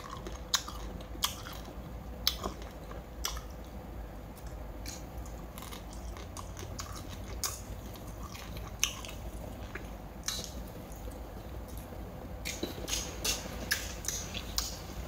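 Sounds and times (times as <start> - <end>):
person chewing crab: 0.0 - 14.9.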